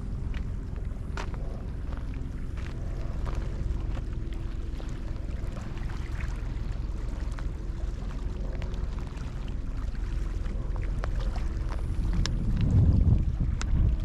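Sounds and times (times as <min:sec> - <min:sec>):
lake water lapping and splashing: 0:00.0 - 0:14.0
wind rumble on microphone: 0:00.0 - 0:14.0.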